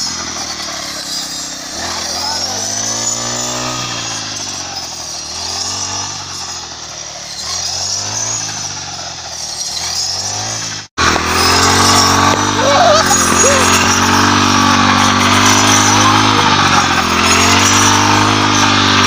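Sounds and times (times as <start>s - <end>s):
brush cutter cutting wheat: 0.0s - 19.0s
engine running steadily: 0.0s - 19.0s.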